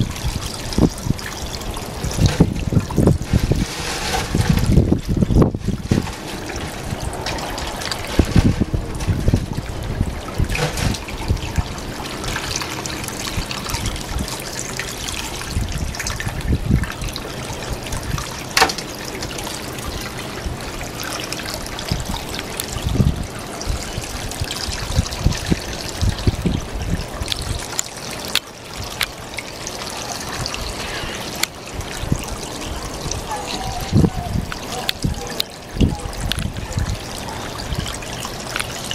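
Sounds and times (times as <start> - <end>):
sharp water splashes: 0.0 - 38.9
water trickling: 0.0 - 38.9.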